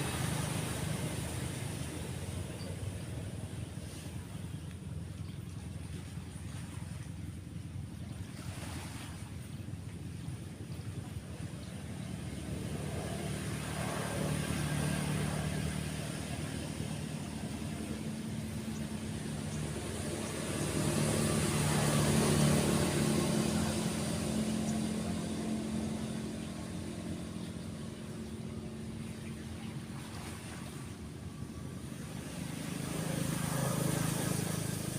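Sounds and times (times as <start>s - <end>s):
faint surf: 0.0s - 34.9s
vehicles passing on road: 0.0s - 34.9s.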